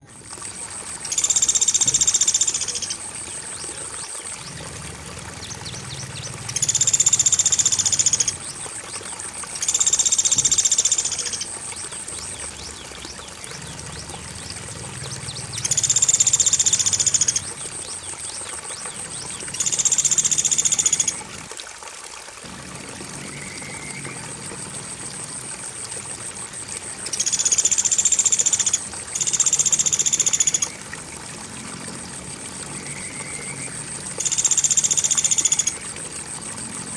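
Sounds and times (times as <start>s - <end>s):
crickets chirring: 0.0s - 21.4s, 22.4s - 36.9s
flowing water: 0.0s - 36.9s.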